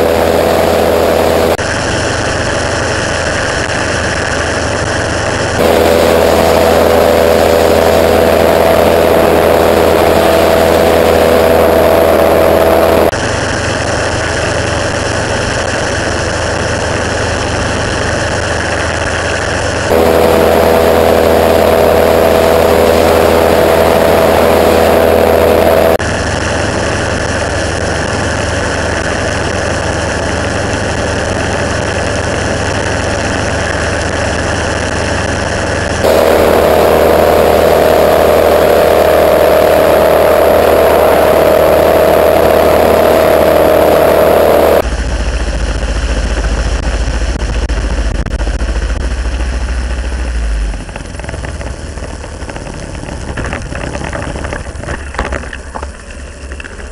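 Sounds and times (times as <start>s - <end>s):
aircraft engine running: 0.0s - 56.9s.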